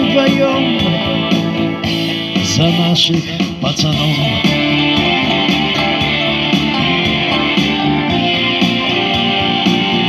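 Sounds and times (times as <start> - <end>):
amplified electric guitar: 0.0 - 10.0.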